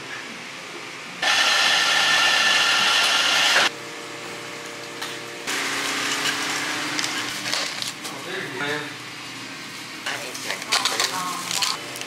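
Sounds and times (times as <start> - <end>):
mechanical hiss and hum: 0.0 - 12.0.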